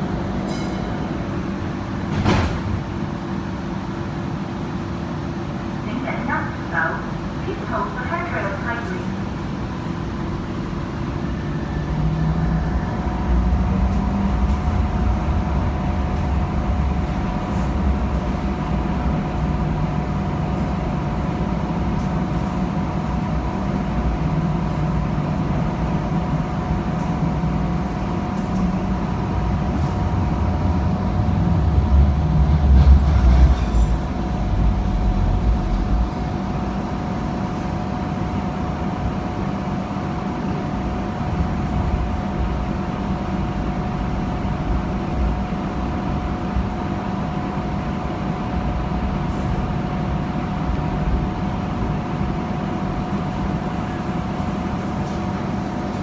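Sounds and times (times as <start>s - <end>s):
train running gear rumble: 0.0s - 56.0s.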